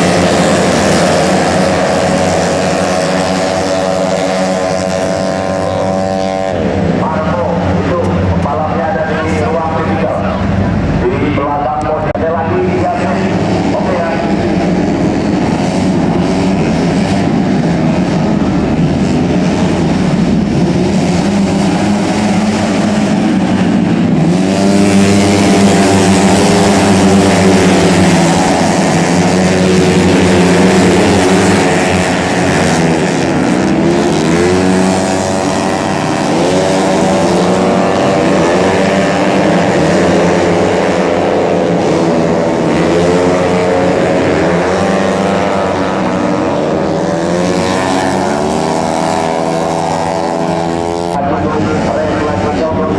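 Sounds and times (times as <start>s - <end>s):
racing scooter engines revving: 0.0s - 52.9s.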